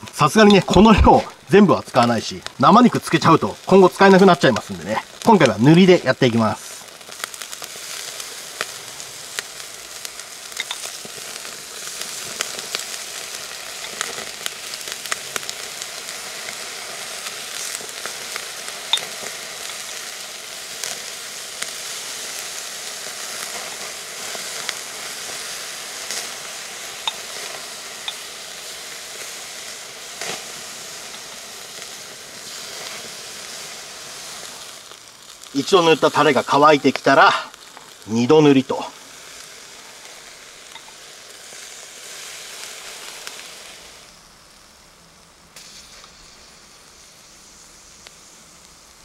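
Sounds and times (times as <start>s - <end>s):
chicken skewers sizzling on grill: 0.0s - 49.0s
sharp crackles and pops: 0.0s - 49.0s.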